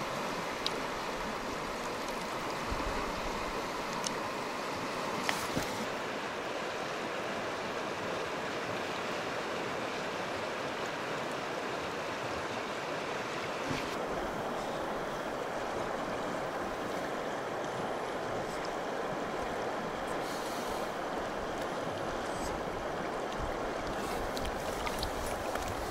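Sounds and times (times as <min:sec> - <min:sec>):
river water rippling over stones: 0:00.0 - 0:25.9.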